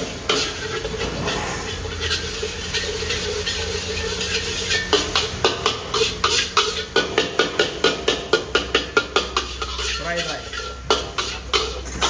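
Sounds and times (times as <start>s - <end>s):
metal spatula clattering in wok: 0.3s - 12.0s.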